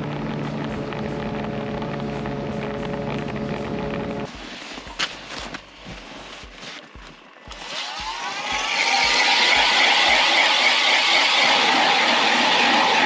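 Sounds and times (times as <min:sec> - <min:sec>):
ice auger engine running: 0:00.0 - 0:13.0.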